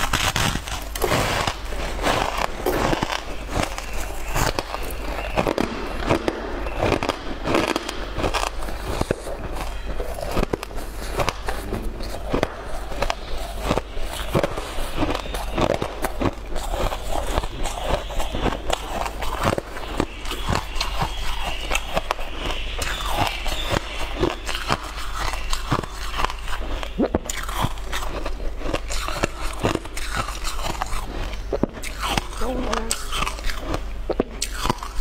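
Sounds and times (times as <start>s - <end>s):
ice being bitten and chewed: 0.0s - 35.0s.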